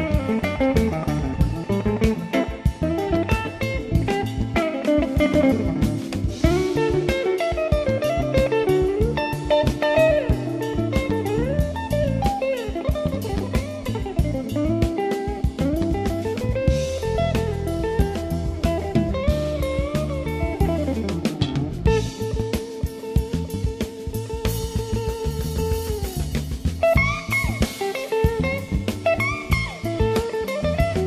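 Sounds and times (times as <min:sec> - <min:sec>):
bass: 0:00.0 - 0:31.0
drum kit: 0:00.0 - 0:31.0
electric guitar solo: 0:00.0 - 0:31.0.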